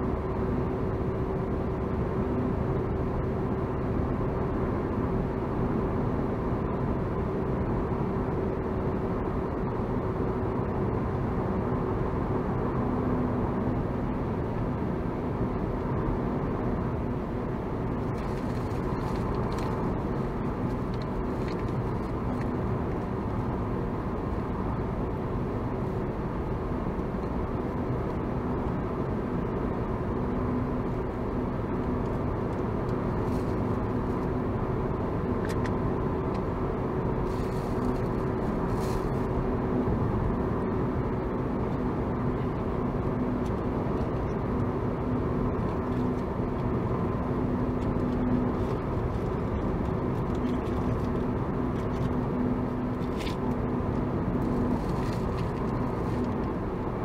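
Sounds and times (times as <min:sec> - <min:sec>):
engine hum: 0:00.0 - 0:57.0.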